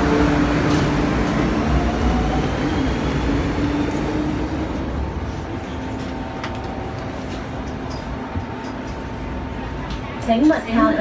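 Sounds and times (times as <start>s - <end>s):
quiet train hum: 0.0s - 11.0s
train running rumble: 0.0s - 11.0s.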